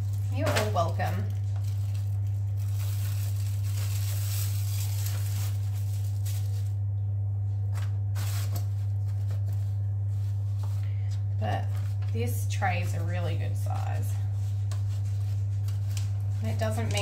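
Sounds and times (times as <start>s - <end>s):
foil tray crinkling: 0.0s - 6.9s, 7.6s - 17.0s
steady low hum: 0.0s - 17.0s.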